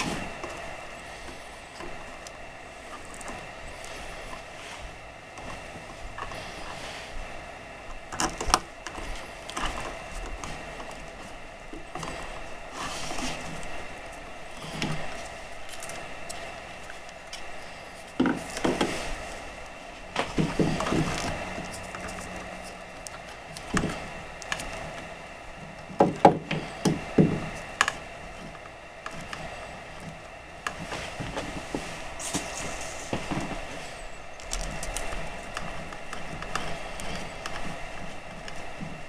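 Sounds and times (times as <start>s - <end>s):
hand handling rustles and scrapes: 0.0s - 39.0s.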